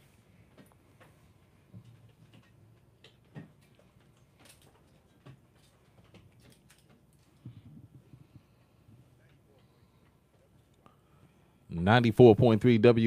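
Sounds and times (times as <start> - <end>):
faint clicks and knocks: 0.1 - 11.0.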